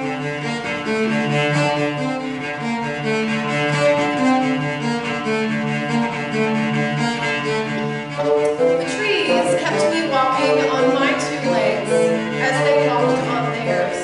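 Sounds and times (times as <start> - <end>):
bassoon: 0.0 - 14.0
cello: 0.0 - 14.0.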